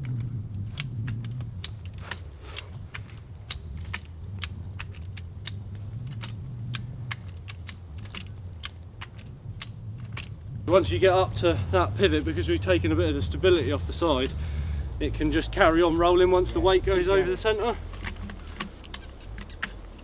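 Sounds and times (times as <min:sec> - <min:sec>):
log jack metal clicks: 0:00.0 - 0:20.0
steady low hum: 0:00.0 - 0:20.0.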